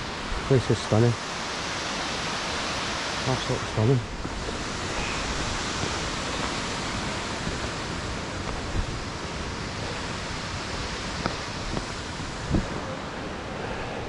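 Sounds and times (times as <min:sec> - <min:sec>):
fast-flowing water rushing: 0:00.0 - 0:14.0.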